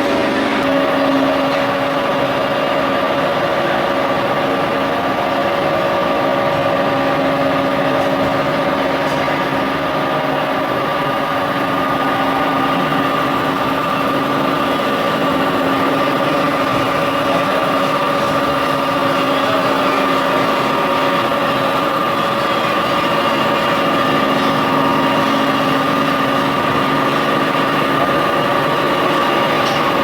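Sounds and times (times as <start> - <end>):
grinding machine running: 0.0 - 30.0.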